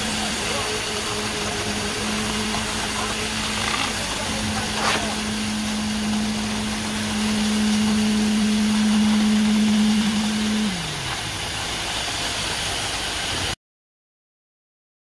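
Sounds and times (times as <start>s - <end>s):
machine motor humming: 0.0s - 13.4s.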